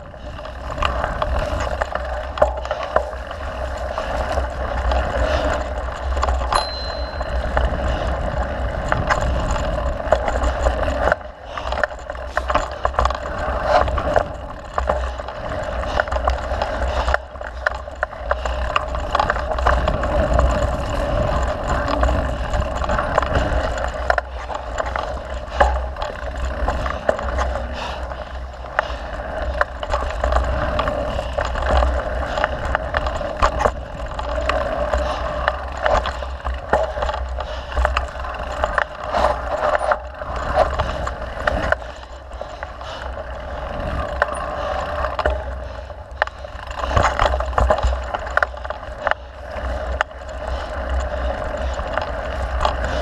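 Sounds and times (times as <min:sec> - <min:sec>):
bike clicks and rattles: 0:00.0 - 0:53.0
bike tyre noise on dirt: 0:00.0 - 0:53.0.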